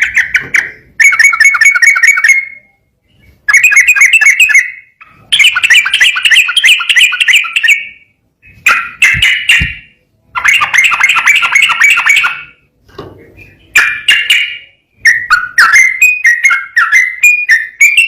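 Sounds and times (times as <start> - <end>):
bird singing rapid chirps: 0.0 - 12.7, 13.4 - 18.0.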